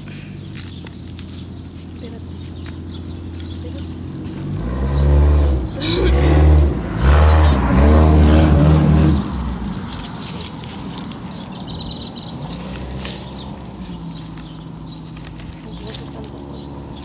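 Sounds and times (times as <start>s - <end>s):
vehicle engine revving: 1.5s - 17.0s.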